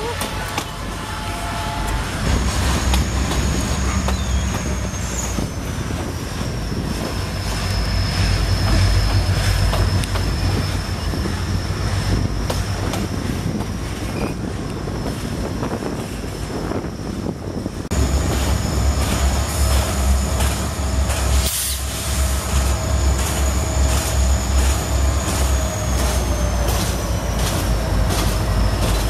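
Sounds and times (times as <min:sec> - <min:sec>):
train rumble: 0:00.0 - 0:29.0
train wheels squealing: 0:01.3 - 0:29.0.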